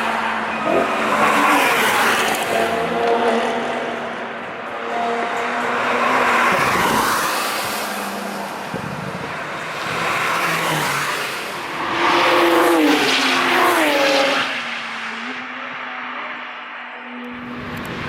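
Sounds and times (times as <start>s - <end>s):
cars passing at speed: 0.0s - 18.0s.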